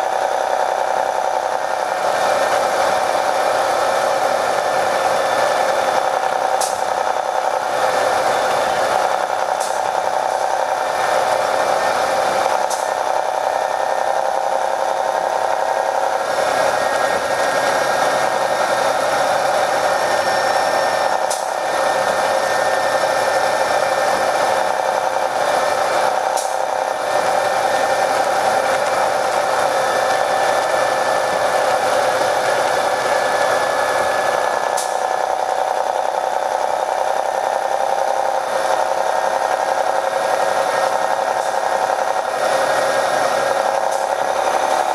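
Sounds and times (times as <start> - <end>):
bus engine drone: 0.0 - 44.9.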